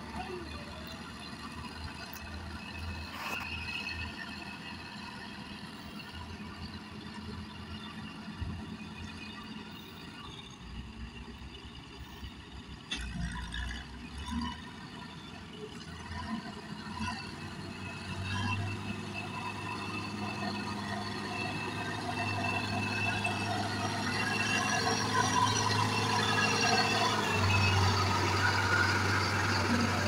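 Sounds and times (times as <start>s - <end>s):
diesel grader engine under load: 0.0s - 30.0s.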